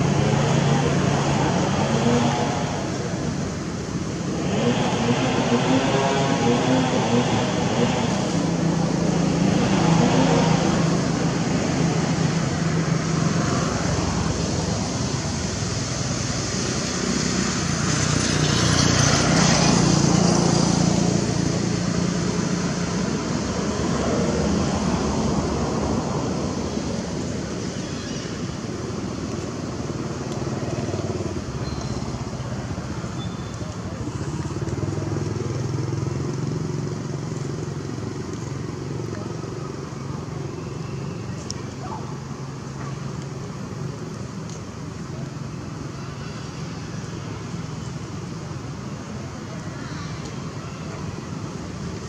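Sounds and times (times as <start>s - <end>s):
vehicle engines running: 0.0s - 52.0s.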